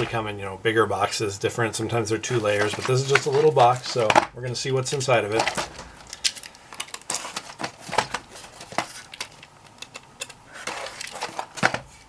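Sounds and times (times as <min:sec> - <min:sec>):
packaging scraping: 0:02.2 - 0:12.0.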